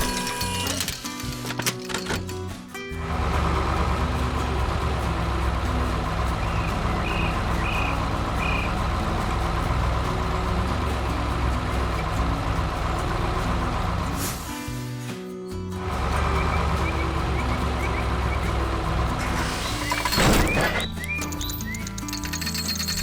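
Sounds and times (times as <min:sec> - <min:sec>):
background music: 0:00.0 - 0:23.0
heavy vehicle engine: 0:00.0 - 0:23.0.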